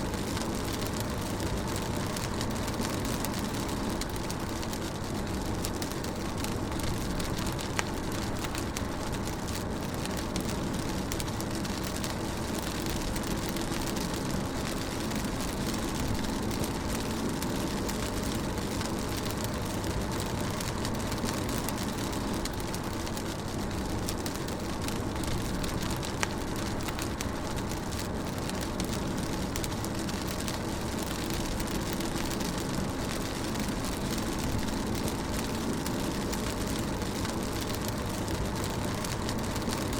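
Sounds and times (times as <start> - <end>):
rain falling on a car: 0.0 - 39.9.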